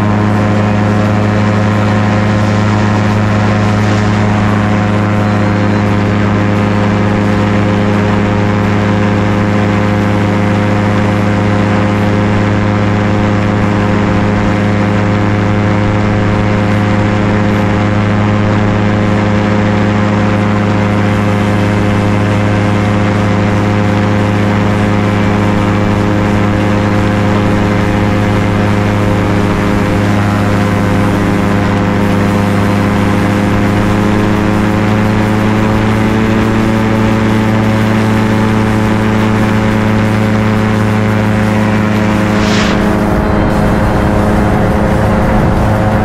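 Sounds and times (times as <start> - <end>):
light aircraft engine drone: 0.0 - 46.0.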